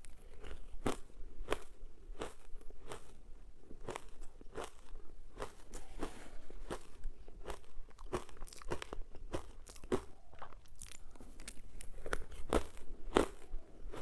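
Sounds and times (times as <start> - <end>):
ice being chewed: 0.0 - 14.0.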